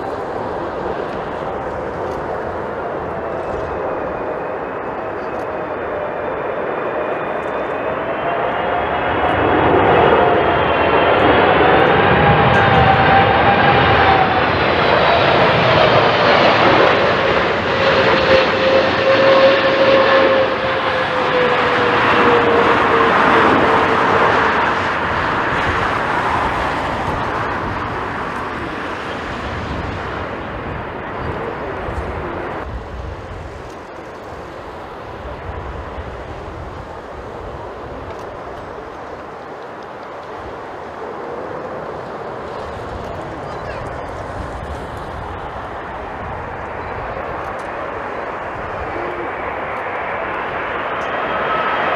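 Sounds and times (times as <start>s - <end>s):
jet airliner roaring past: 0.0s - 51.9s.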